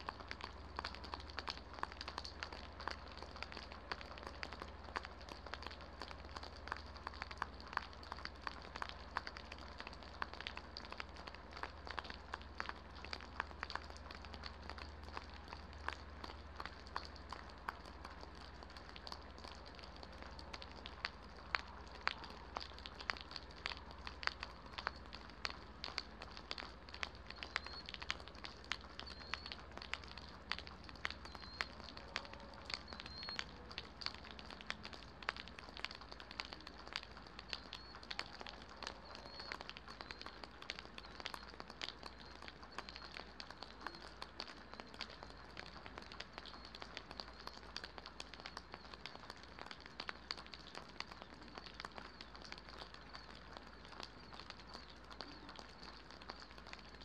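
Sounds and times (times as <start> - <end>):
rain drops tapping: 0.0 - 57.0.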